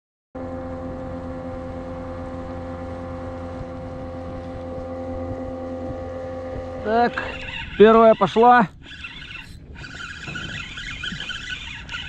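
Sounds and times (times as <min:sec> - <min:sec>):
outboard motor running: 0:00.4 - 0:12.0.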